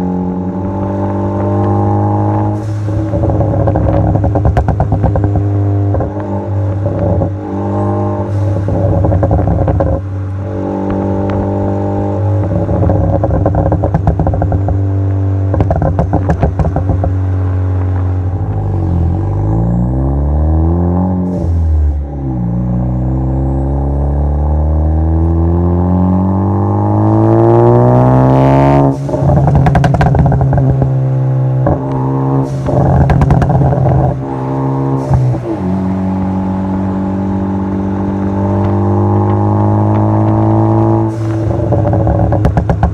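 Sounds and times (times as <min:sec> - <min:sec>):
exhaust crackling and popping: 0:00.0 - 0:23.1, 0:24.1 - 0:42.9
car engine revving: 0:00.0 - 0:42.9.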